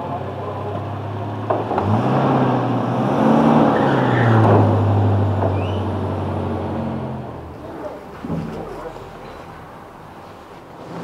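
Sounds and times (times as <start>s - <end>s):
pickup truck driving past: 0.0s - 11.0s.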